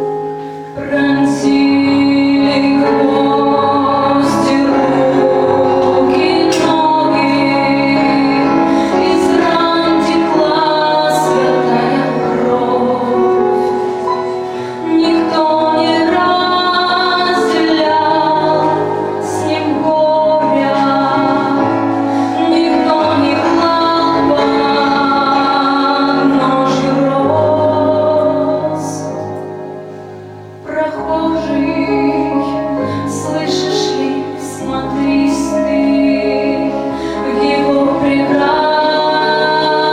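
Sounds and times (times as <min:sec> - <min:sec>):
instrumental accompaniment: 0:00.0 - 0:39.9
woman singing: 0:00.8 - 0:29.4, 0:30.6 - 0:39.9.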